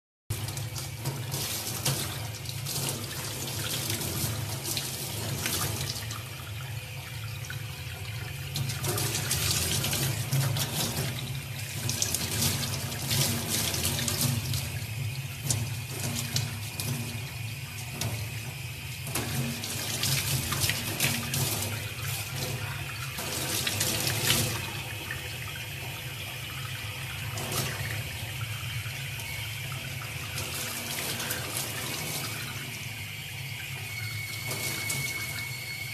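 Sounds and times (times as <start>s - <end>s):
water running from tap: 0.3s - 35.9s.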